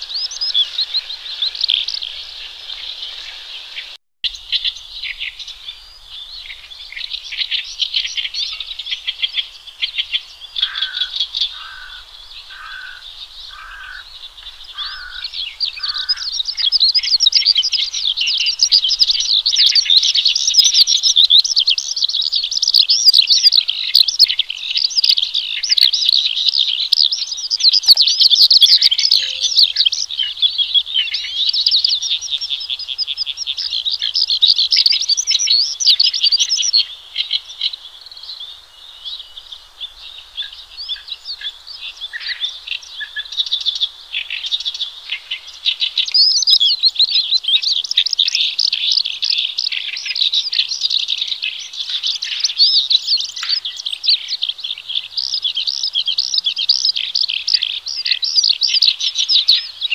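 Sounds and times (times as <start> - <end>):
bird singing rapid varied song: 0.0 - 59.9
lower evenly spaced bird notes: 0.0 - 59.9.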